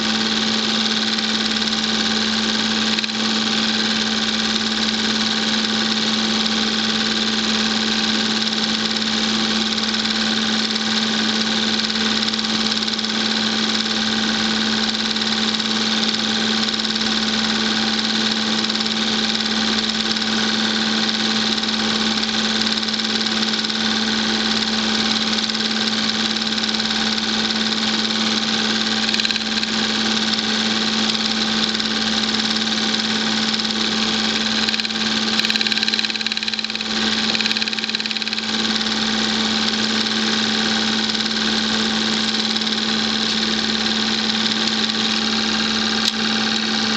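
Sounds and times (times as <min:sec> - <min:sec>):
film projector whirring: 0:00.0 - 0:46.9.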